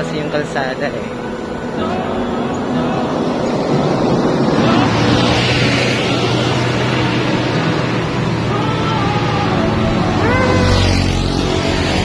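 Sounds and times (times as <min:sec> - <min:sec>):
low engine hum: 0:00.0 - 0:12.0
wind and road noise: 0:00.0 - 0:12.0.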